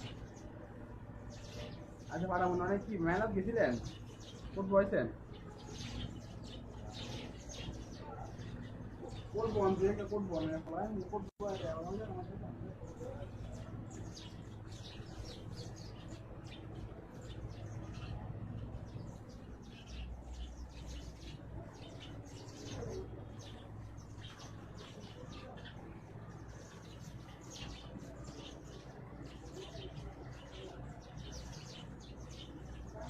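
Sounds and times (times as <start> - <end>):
low steady hum: 0.0 - 33.0
sparrows chirping: 0.0 - 33.0.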